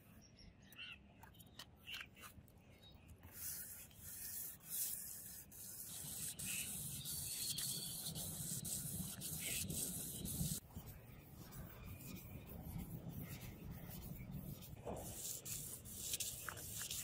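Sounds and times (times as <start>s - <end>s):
sandpaper rubbing on steel: 3.3s - 17.0s.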